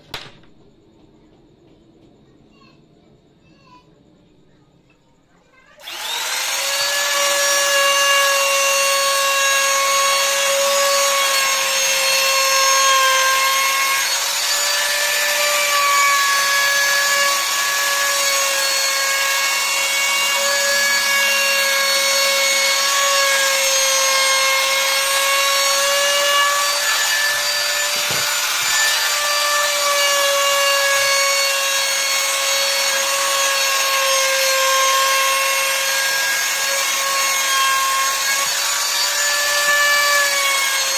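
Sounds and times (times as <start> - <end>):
electric router whining: 5.8 - 40.9.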